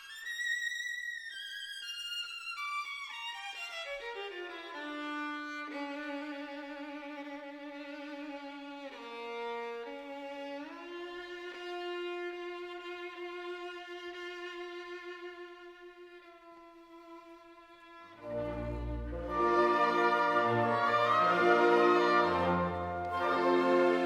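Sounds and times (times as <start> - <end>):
bowed violin: 0.0 - 24.0.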